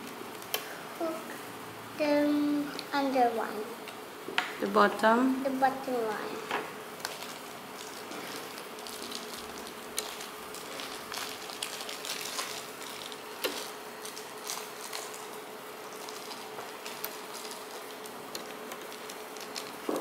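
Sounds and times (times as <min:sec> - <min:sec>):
faint steady hum: 0:00.0 - 0:20.0
steady hiss: 0:00.0 - 0:20.0.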